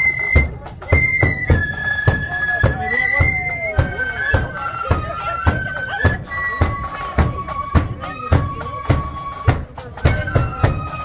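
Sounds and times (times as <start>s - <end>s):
marching flute band melody: 0.0s - 11.0s
steady bass drum beat: 0.0s - 11.0s.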